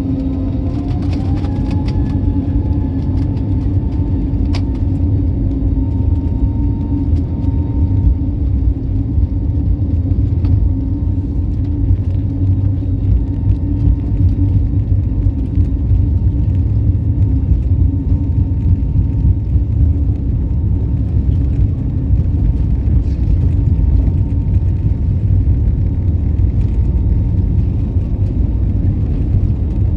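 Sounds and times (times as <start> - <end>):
jet engines rumbling in cabin: 0.0 - 29.9.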